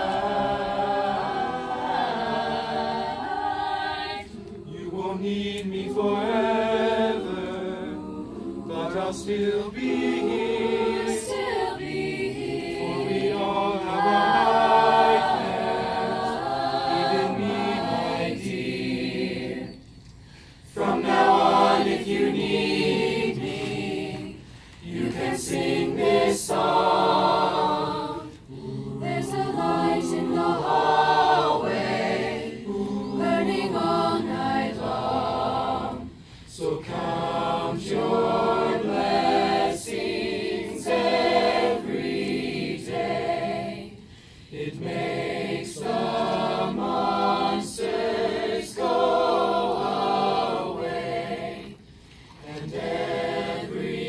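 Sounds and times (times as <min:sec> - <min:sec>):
choir singing: 0:00.0 - 0:20.0, 0:20.6 - 0:54.0.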